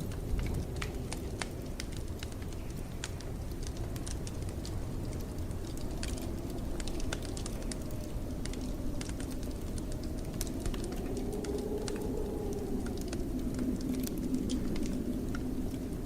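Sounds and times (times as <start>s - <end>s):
blizzard wind rumble: 0.0s - 16.0s
wood fire crackling: 0.0s - 16.0s.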